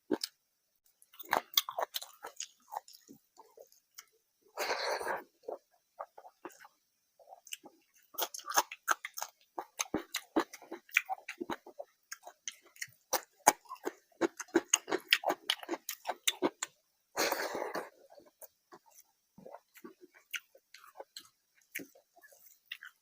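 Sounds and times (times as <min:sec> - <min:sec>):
person chewing with mouth smacks: 0:01.1 - 0:04.1, 0:05.5 - 0:23.0.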